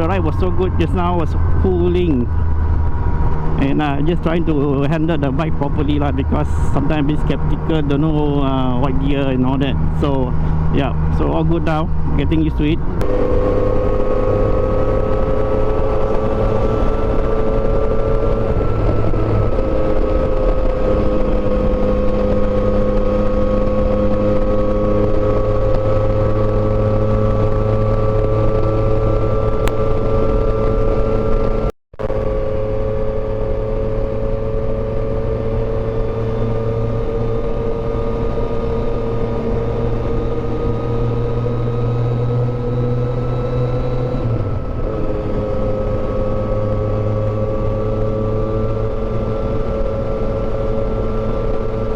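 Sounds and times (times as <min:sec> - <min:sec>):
motorcycle engine cruising: 0:00.0 - 0:51.9
road and wind noise: 0:00.0 - 0:51.9.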